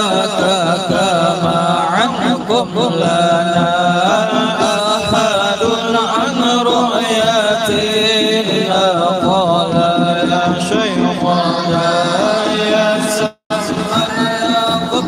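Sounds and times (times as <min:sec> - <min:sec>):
male voices chanting a devotional song: 0:00.0 - 0:15.0.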